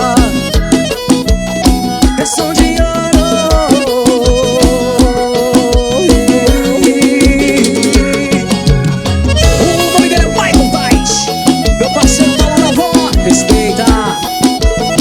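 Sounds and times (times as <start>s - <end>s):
accordion melody: 0.0s - 15.0s
steady driving drum beat: 0.0s - 15.0s.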